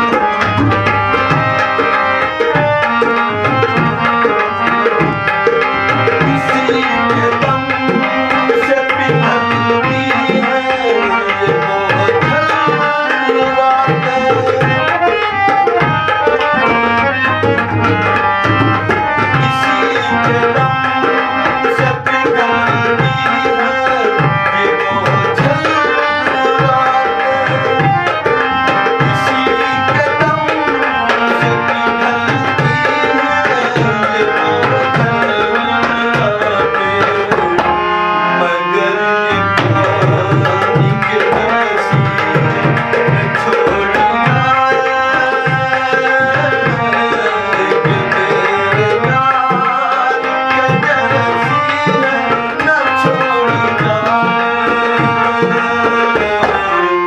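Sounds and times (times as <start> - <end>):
hand drum rhythm: 0.0 - 38.0, 39.3 - 56.9.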